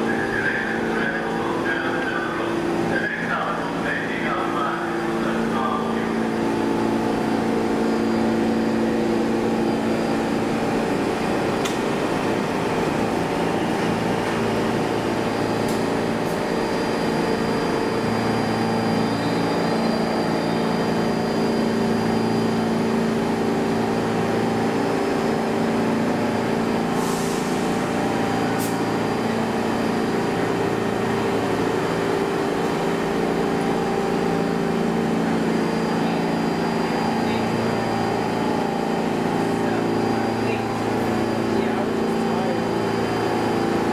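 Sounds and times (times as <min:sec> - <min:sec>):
subway car equipment humming: 0:00.0 - 0:43.9.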